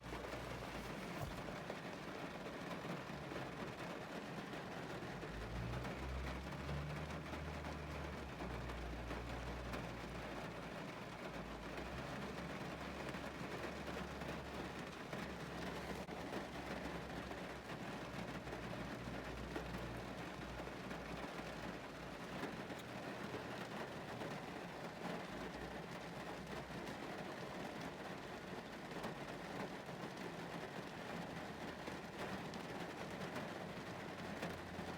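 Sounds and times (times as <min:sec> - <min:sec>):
heavy rain on a car roof: 0:00.0 - 0:34.9.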